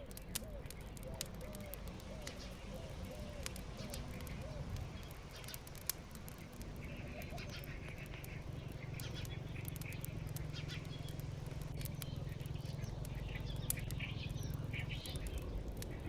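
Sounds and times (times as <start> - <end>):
steady low rumble: 0.7 - 16.0.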